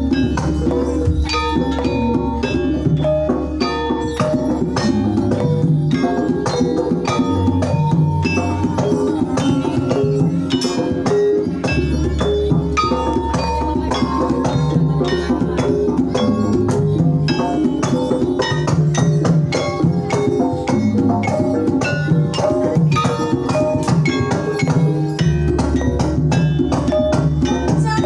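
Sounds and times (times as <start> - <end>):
drum strokes: 0.0 - 28.0
gamelan music: 0.0 - 28.0.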